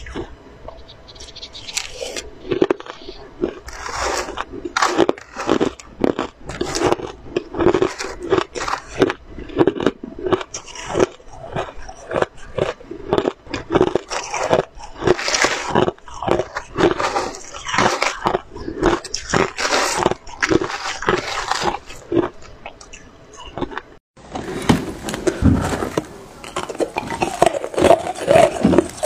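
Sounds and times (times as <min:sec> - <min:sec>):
crushed ice being chewed: 0:00.0 - 0:00.3, 0:01.3 - 0:23.8, 0:25.1 - 0:29.0.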